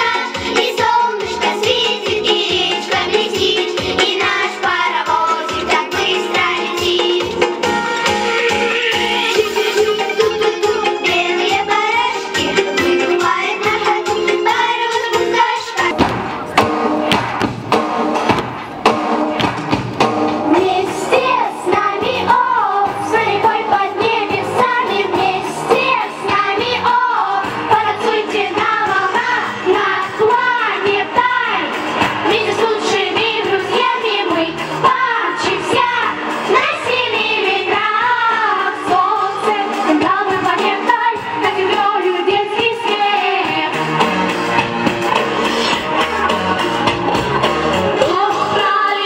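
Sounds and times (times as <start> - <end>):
girls singing into microphones: 0.0 - 16.0, 20.4 - 44.2, 48.0 - 49.0
backing track with a beat: 0.0 - 49.0.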